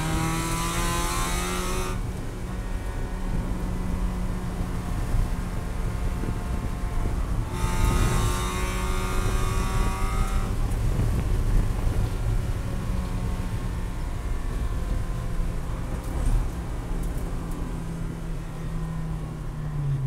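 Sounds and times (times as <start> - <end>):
race car engine: 0.0 - 20.0
road and drivetrain drone: 0.0 - 20.0.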